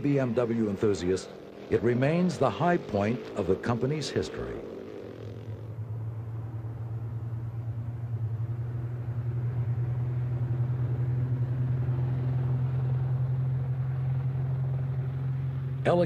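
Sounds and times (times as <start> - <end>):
car engine approaching: 0.0 - 16.0.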